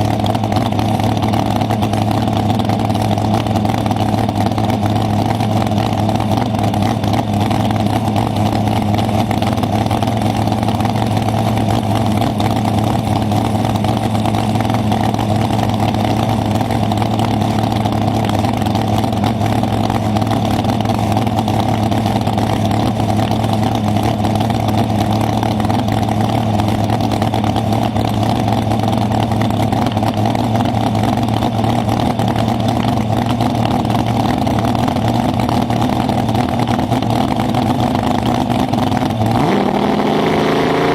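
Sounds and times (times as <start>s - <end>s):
race car engine running steadily: 0.0s - 40.9s.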